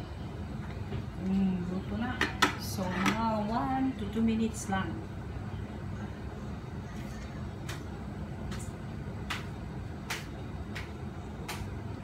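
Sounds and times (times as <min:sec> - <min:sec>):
low kitchen rumble: 0:00.0 - 0:12.0.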